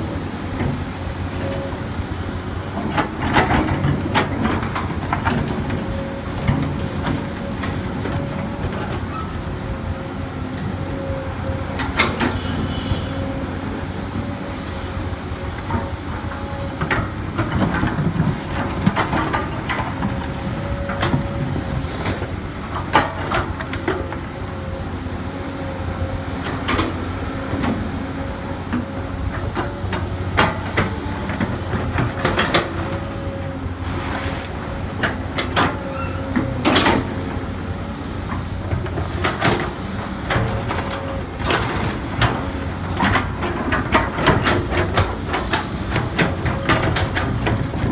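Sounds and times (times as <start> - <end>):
excavator clanks and knocks: 0.0 - 10.0, 10.6 - 47.9
excavator diesel engine whine: 0.0 - 47.9.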